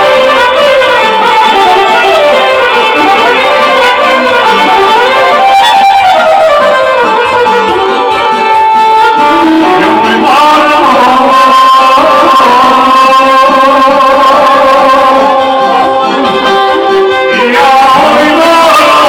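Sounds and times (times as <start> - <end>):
bowed violin folk melody: 0.0 - 19.0.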